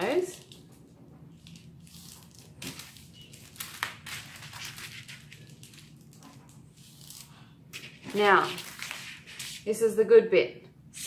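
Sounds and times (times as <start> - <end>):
baking paper crinkling: 0.0 - 9.7.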